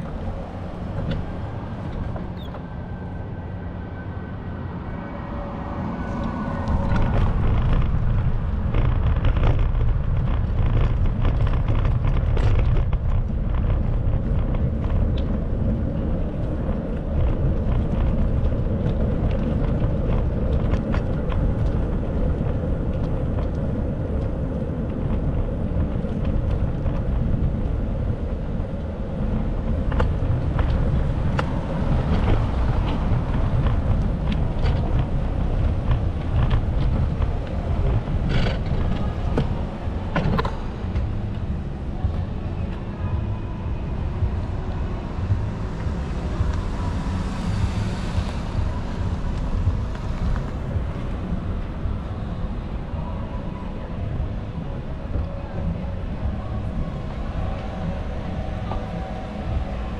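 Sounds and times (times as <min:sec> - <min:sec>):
road and wind rumble: 0:00.0 - 0:59.9.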